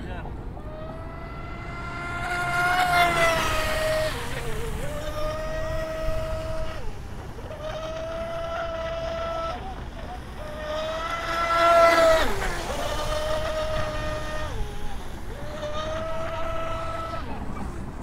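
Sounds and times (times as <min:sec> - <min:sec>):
electric speedboat whine: 0:00.0 - 0:18.0.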